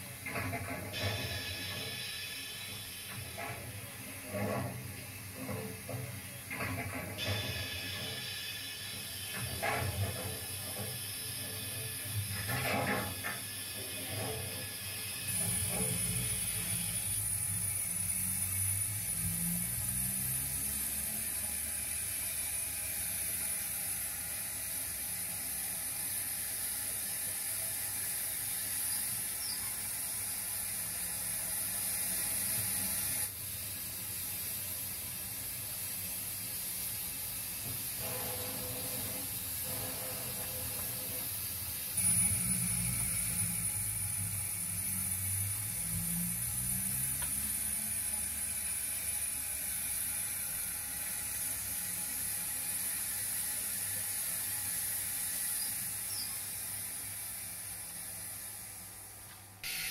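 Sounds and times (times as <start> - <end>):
low mechanical running noise: 0.0 - 59.9
model steam locomotive hiss: 0.0 - 59.9.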